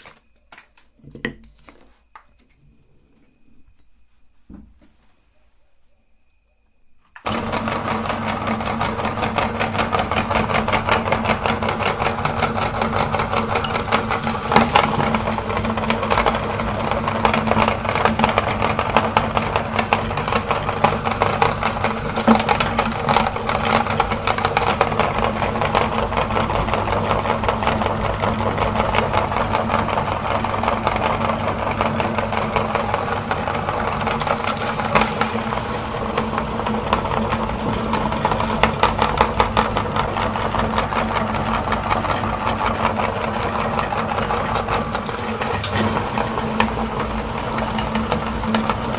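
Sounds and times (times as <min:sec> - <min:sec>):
cones cracking in grinder: 0:00.0 - 0:02.3, 0:07.2 - 0:48.9
meat grinder motor rattling: 0:07.2 - 0:48.9.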